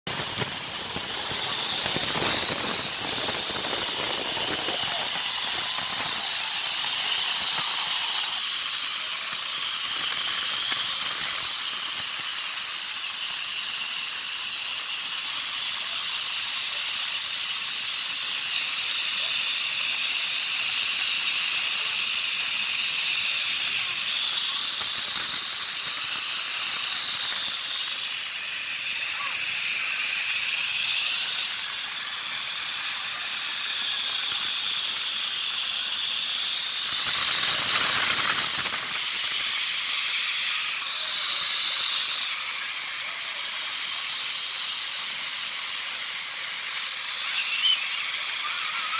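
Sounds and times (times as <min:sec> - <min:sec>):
high-pitched hiss: 0:00.1 - 0:48.9.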